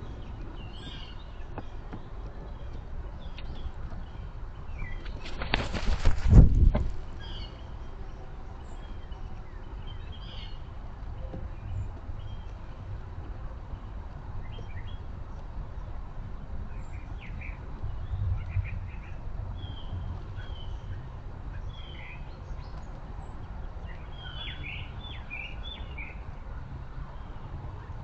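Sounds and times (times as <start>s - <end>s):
birds chirping: 0.0s - 12.9s, 16.4s - 26.4s
wind rumble on microphone: 0.0s - 28.0s.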